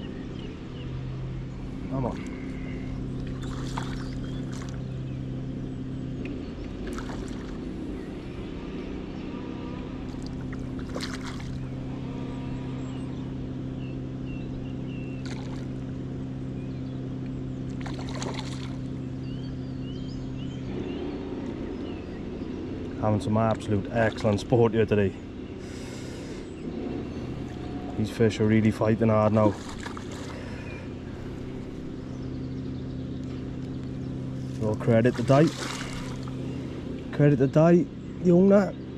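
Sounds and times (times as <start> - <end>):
low motor hum: 0.0 - 38.9.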